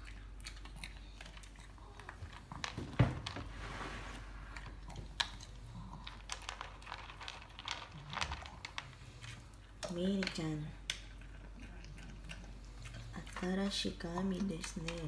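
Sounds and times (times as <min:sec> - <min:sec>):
dog crunching dry kibble: 0:00.0 - 0:03.4, 0:04.4 - 0:15.0.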